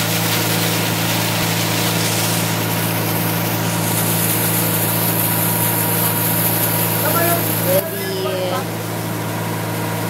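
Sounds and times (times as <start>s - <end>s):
motorboat engine running: 0.0s - 10.0s.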